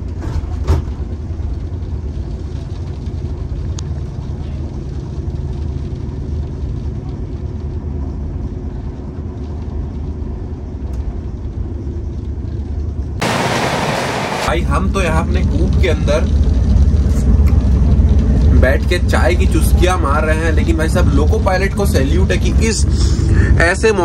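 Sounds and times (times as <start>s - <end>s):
train rumbling inside coach: 0.0s - 24.0s.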